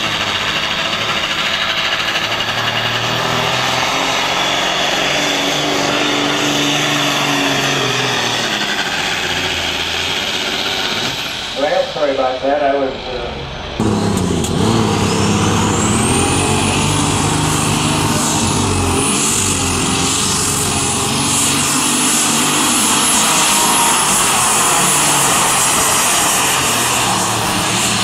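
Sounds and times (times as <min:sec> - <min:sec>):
high turbo whine: 0:00.0 - 0:28.0
tractor engine at full throttle: 0:00.0 - 0:28.0.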